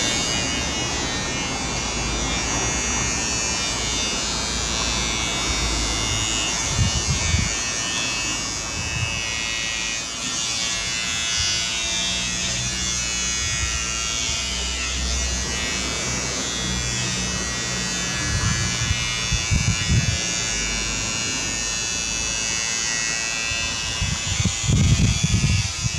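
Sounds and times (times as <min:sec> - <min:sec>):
electric hair clippers buzzing: 0:00.0 - 0:25.9.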